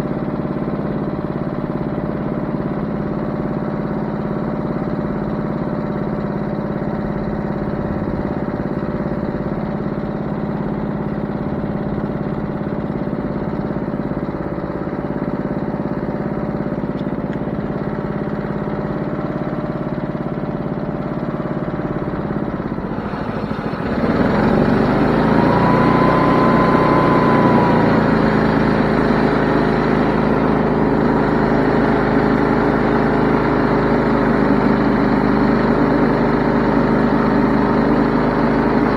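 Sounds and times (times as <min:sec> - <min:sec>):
engine running: 0:00.0 - 0:38.9
engine whine: 0:00.0 - 0:38.9.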